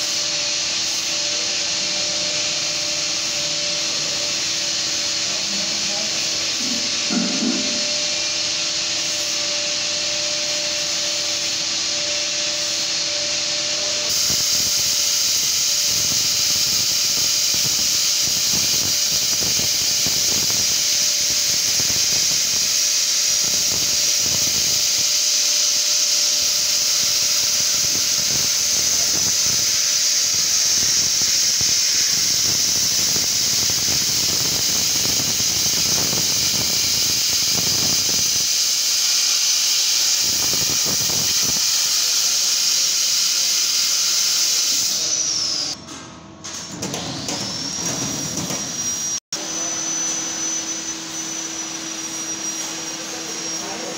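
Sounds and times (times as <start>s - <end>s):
gas jet hissing: 0.0s - 45.8s.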